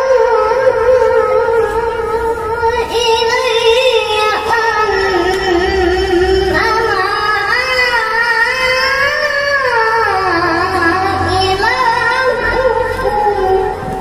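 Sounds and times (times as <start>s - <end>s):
boy reciting in melodic chant: 0.0s - 14.0s.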